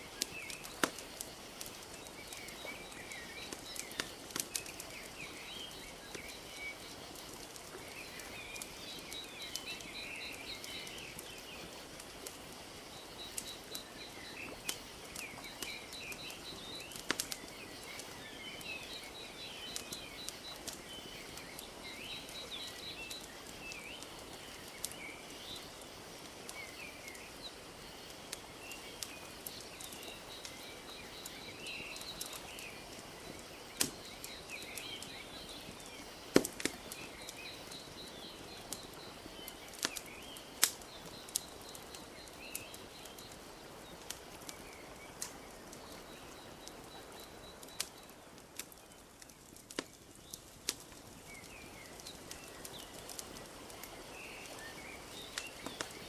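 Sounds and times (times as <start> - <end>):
small birds chirping: 0.0 - 56.0
wood fire crackling: 0.0 - 56.0.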